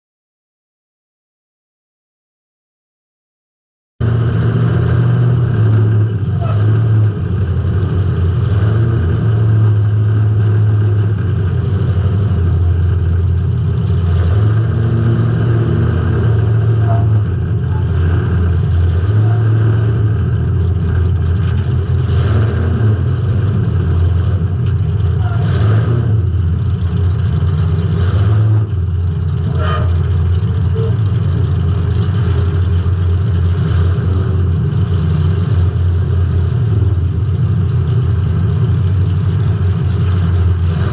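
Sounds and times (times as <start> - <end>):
car engine running loudly: 4.0 - 40.9.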